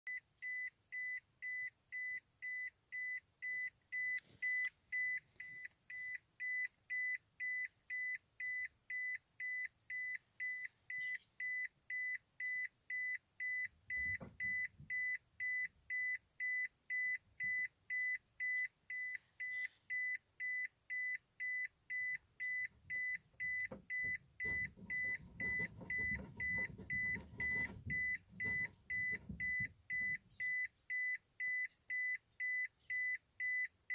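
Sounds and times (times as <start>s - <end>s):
dashboard warning chime beeping: 0.1s - 33.9s.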